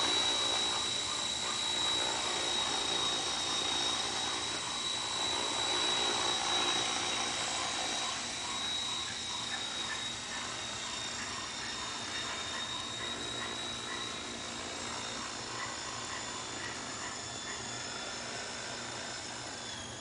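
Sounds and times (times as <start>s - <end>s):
model helicopter hovering: 0.0s - 20.0s.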